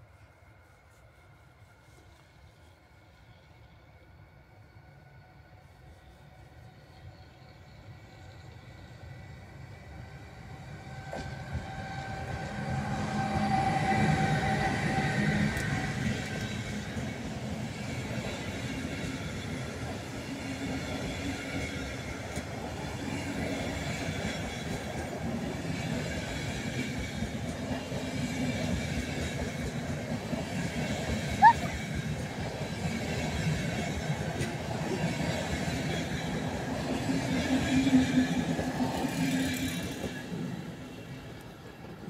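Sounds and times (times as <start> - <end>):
electric locomotive hum: 0.0 - 42.0
train wheels rumbling on rails: 4.2 - 42.0.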